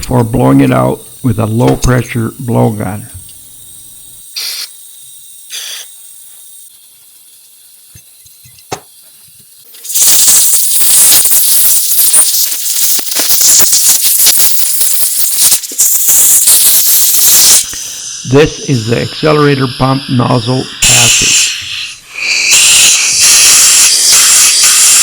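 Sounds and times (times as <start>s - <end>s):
air blowgun rough hiss: 0.0s - 25.0s
short air hisses: 3.1s - 25.0s.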